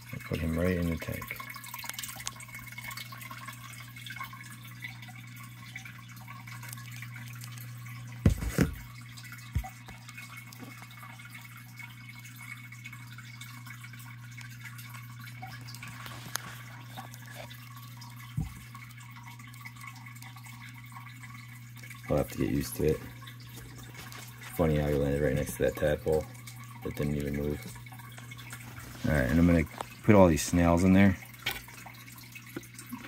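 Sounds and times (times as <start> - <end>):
water trickling in aquarium: 0.0 - 33.0.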